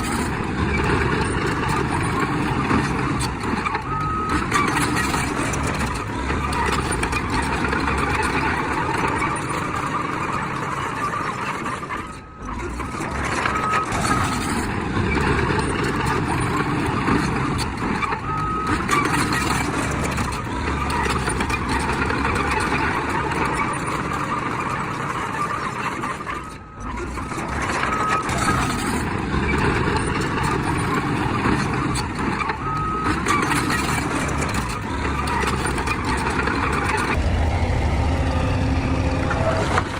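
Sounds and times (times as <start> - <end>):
heavy machinery engine and tracks: 0.0 - 39.9.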